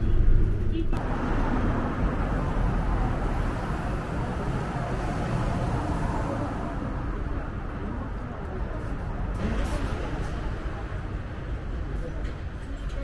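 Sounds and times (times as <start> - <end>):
passing vehicles rumble: 0.0 - 13.0.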